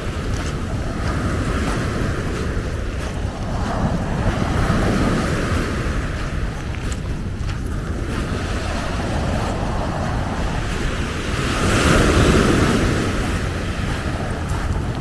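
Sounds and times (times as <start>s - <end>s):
ocean waves washing onto beach: 0.0s - 15.0s
wind rumbling on microphone: 0.0s - 15.0s.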